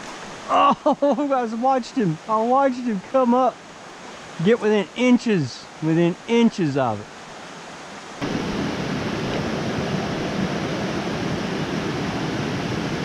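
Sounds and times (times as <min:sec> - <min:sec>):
creek water rushing over rocks: 0:00.0 - 0:13.0.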